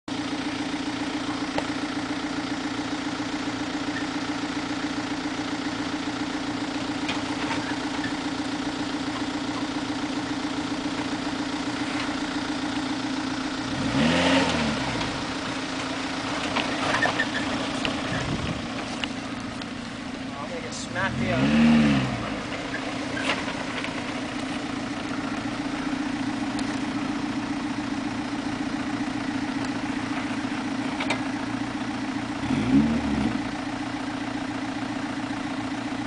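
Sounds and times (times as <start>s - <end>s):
vehicle engine at low revs: 0.0s - 36.0s.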